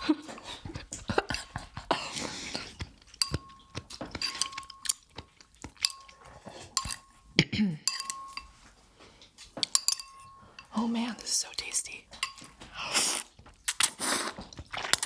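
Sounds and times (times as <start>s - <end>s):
utensils clinking against a bowl: 0.0s - 15.0s.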